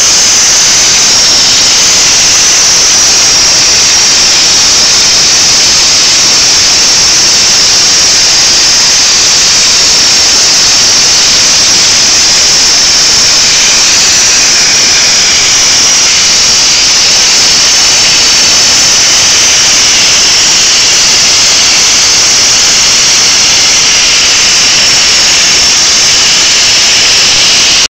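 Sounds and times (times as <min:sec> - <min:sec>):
plasma cutter hissing: 0:00.0 - 0:27.9.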